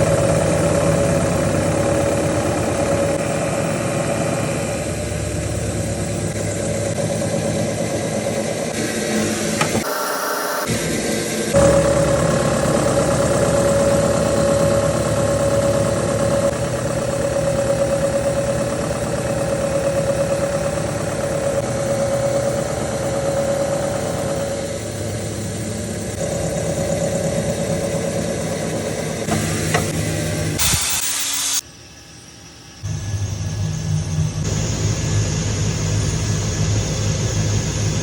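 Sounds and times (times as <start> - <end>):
milling machine drone: 0.0 - 38.0
sustained machine whine: 0.0 - 38.0.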